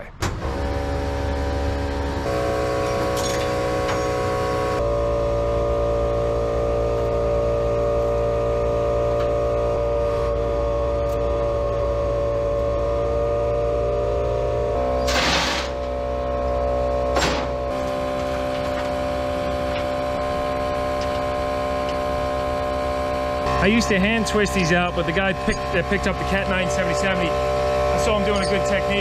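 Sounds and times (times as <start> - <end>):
sustained music chords: 0.5 - 29.0.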